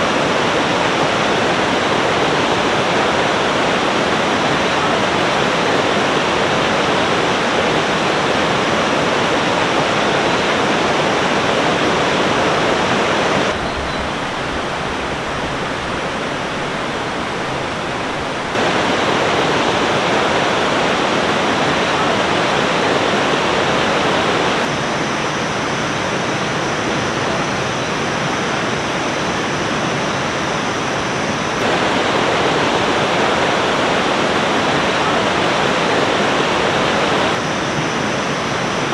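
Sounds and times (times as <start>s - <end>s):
river flowing over rocks: 0.0s - 30.3s, 31.4s - 38.9s.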